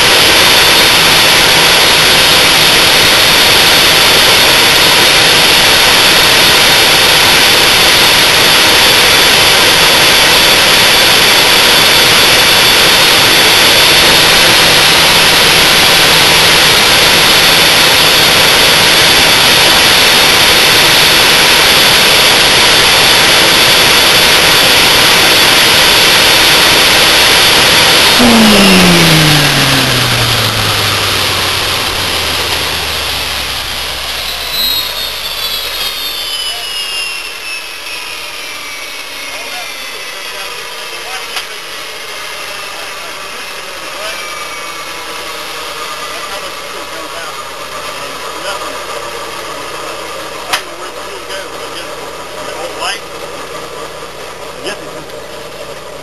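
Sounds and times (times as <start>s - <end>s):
engine spooling down whine: 0.0s - 56.0s
turbine jet engine roaring: 0.0s - 56.0s.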